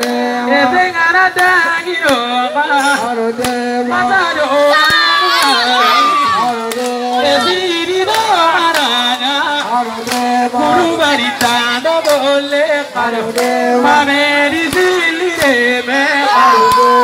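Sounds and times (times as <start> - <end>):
man singing through loudspeaker: 0.0 - 17.0.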